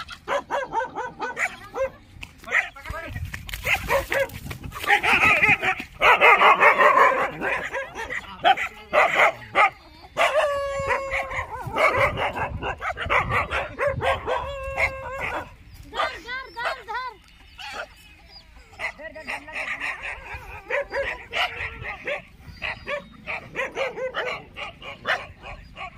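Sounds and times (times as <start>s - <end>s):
dogs barking and yelping: 0.0s - 2.8s, 3.5s - 25.9s.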